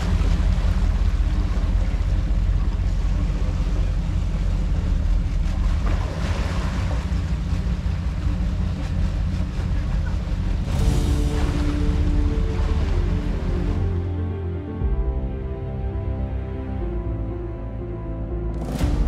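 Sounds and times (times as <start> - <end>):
boat engines rumbling: 0.0 - 19.0.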